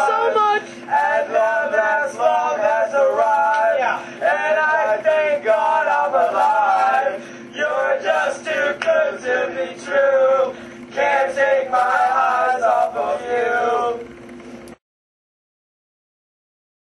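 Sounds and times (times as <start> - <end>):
men chanting together: 0.0 - 14.0
steady low hum: 0.0 - 14.8.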